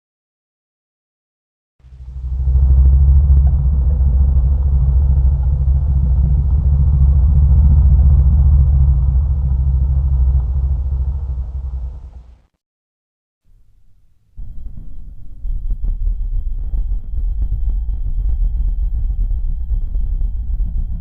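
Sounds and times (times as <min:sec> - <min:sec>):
deep rough rumbling creature call: 0:01.8 - 0:12.5, 0:14.4 - 0:21.0.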